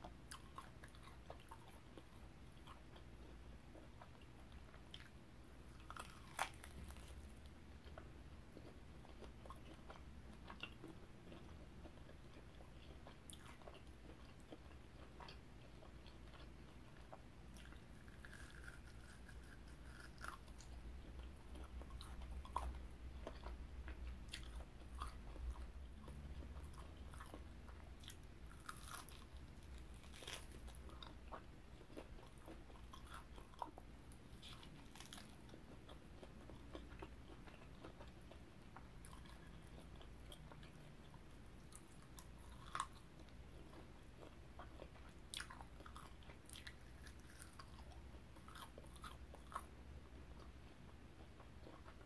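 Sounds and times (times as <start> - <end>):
faint low hum: 0.0 - 52.0
person chewing and biting: 0.3 - 40.8, 41.6 - 49.7.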